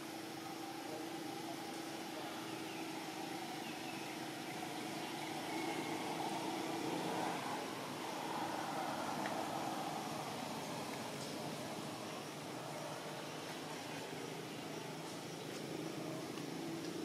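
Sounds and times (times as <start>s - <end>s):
even hiss: 0.0s - 17.0s
steady mechanical hum: 0.0s - 17.0s.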